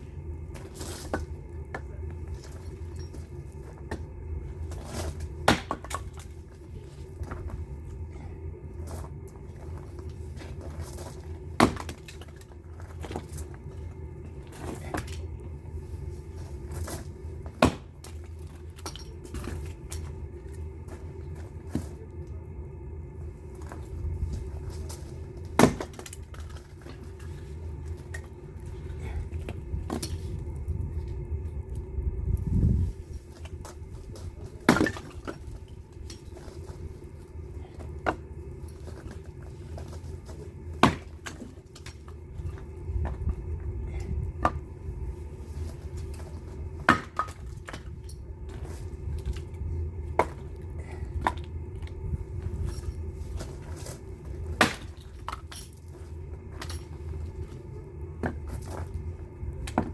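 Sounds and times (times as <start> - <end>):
steady low rumble: 0.0 - 59.9
firewood cracking: 0.4 - 8.1, 8.8 - 22.4, 23.2 - 31.9, 33.0 - 59.9.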